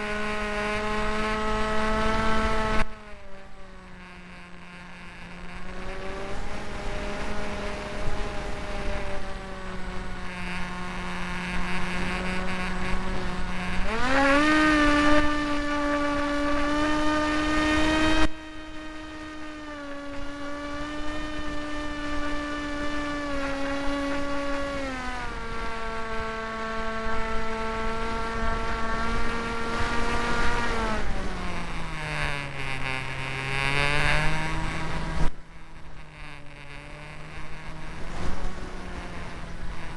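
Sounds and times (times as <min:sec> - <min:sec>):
model plane motor whining: 0:01.1 - 0:39.9.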